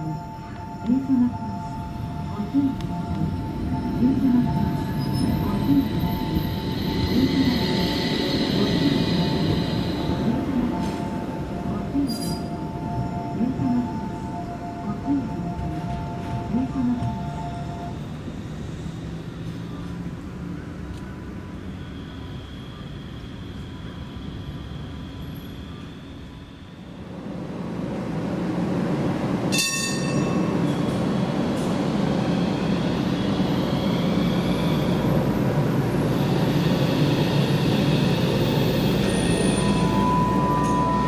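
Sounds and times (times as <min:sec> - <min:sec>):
tram rolling rumble and motor whine: 0:00.0 - 0:41.0.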